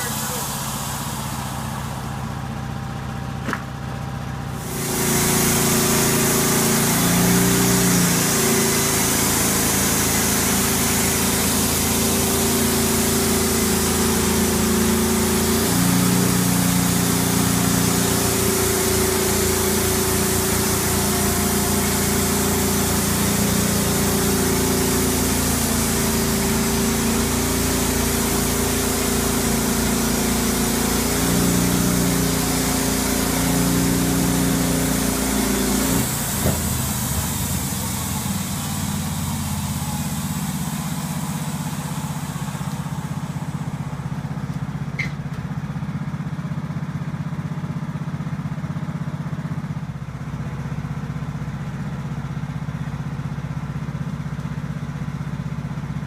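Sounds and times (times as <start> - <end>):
sawmill engine under load: 0.0 - 56.0.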